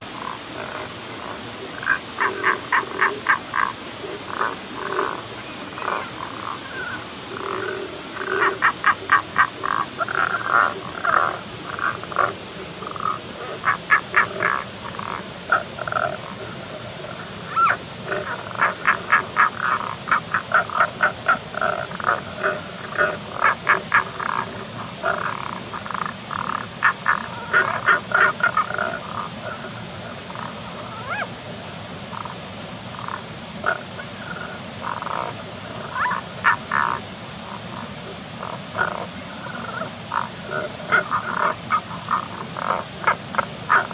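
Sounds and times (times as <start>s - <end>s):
frogs croaking: 0.0s - 43.9s
steady hiss: 0.0s - 43.9s.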